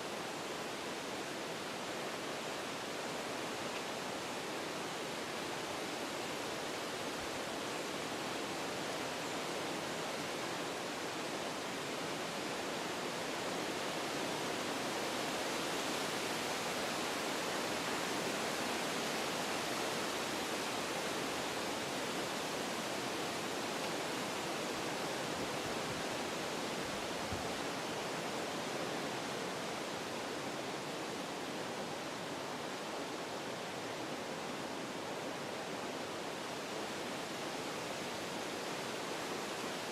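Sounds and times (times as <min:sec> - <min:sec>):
wind through forest trees: 0:00.0 - 0:39.9.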